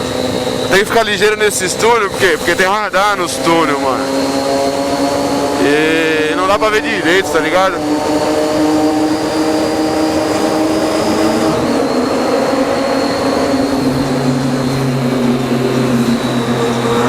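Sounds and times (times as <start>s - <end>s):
constant rushing noise: 0.0s - 17.0s
motorcycle engine cruising: 0.0s - 17.0s.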